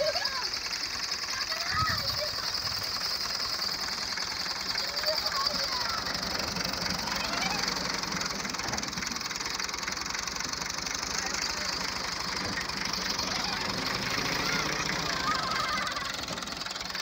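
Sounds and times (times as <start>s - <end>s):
diesel tractor engine clatter: 0.0s - 17.0s.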